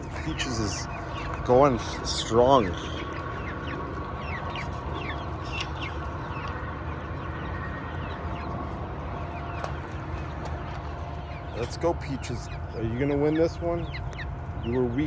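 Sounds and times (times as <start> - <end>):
hens clucking and chirping: 0.0 - 15.0
steady background hum: 0.0 - 15.0.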